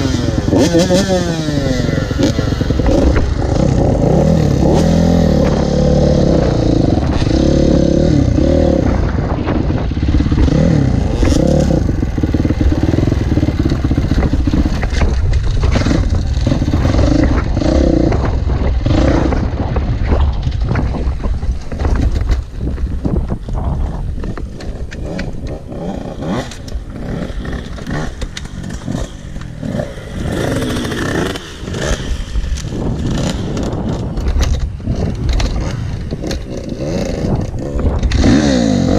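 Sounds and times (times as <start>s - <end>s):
motocross bike engine revving: 0.0s - 21.0s, 22.6s - 38.9s.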